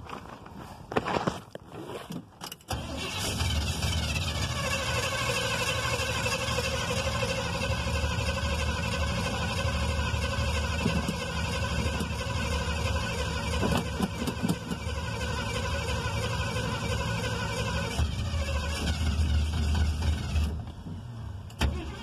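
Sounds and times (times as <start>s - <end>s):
pickup truck engine idling: 2.7s - 22.0s.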